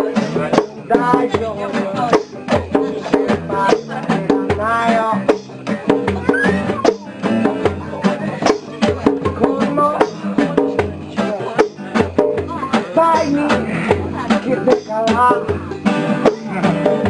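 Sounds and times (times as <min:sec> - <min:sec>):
acoustic guitars strumming: 0:00.0 - 0:17.0
people singing: 0:00.0 - 0:17.0
percussion: 0:00.0 - 0:17.0.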